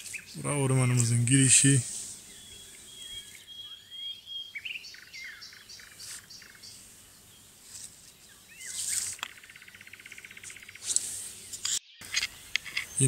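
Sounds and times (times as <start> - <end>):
rustle: 0.0 - 3.5, 5.2 - 13.0
songbirds singing: 0.0 - 13.0.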